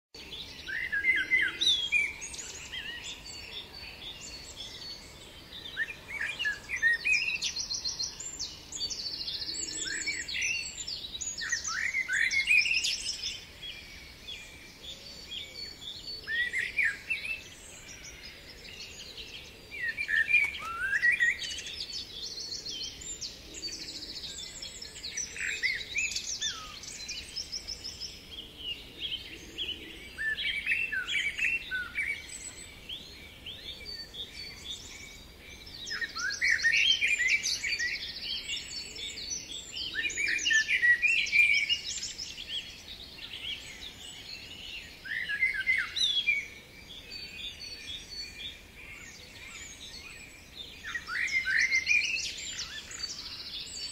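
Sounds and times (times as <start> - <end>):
songbirds chirping and trilling: 0.1 - 53.9.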